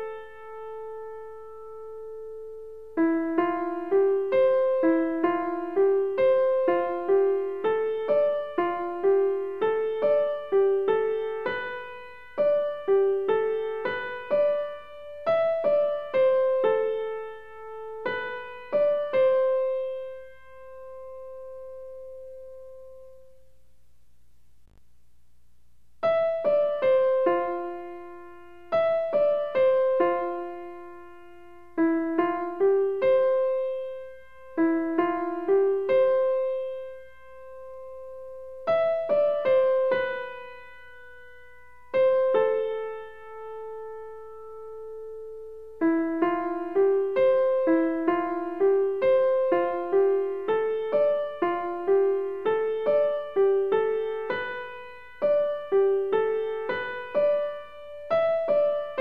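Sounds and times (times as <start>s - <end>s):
slow piano melody: 0.0s - 23.6s, 26.0s - 59.0s.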